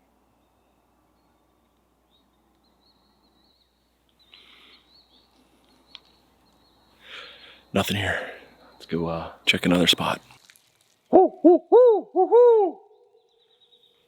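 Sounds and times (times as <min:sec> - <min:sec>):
distant songbird chirps: 0:00.0 - 0:10.3, 0:11.1 - 0:14.0
thin high warbling birdsong: 0:00.0 - 0:10.3, 0:12.8 - 0:14.0.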